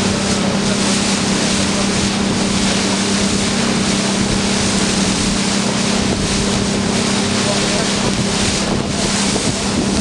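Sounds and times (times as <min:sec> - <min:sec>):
motorboat engine humming: 0:00.0 - 0:10.0
rush of wind and water: 0:00.0 - 0:10.0.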